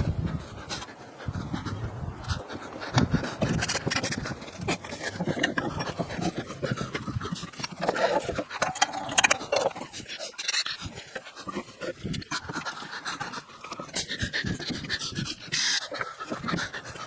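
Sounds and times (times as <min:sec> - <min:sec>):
dog panting: 0:00.0 - 0:17.0
scraping and clicking: 0:02.3 - 0:17.0.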